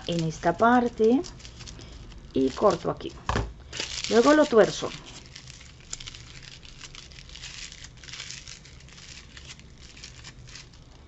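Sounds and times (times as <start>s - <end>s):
crepe paper crinkling: 0.0s - 11.0s.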